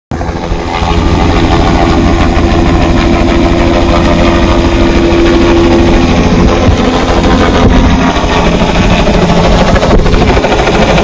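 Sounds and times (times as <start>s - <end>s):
helicopter engine and rotor: 0.1s - 11.0s.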